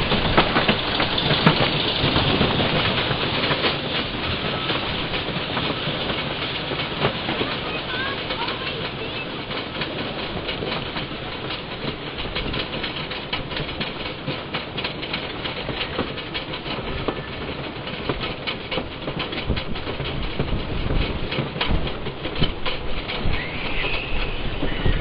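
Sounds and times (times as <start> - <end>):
roller coaster lift chain clacking: 0.0 - 25.0.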